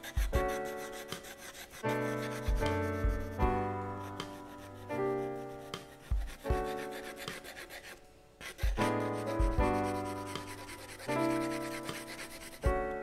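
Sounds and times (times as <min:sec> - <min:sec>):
pencil shading on paper: 0:00.0 - 0:13.0
slow background music chords: 0:00.0 - 0:13.0.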